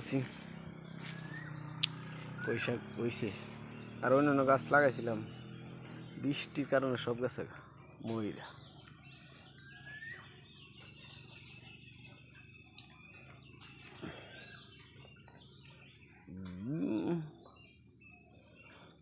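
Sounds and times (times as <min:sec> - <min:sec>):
bird chirps: 0:00.0 - 0:19.0
insects trilling: 0:00.0 - 0:19.0.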